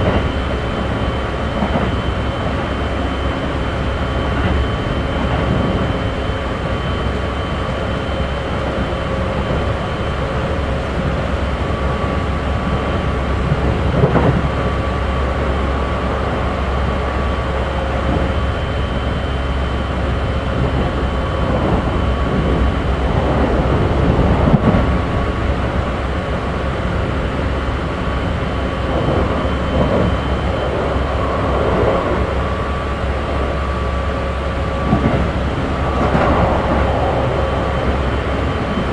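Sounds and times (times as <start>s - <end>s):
train rattles: 0.0s - 38.9s
train wheels rumbling on rail: 0.0s - 38.9s.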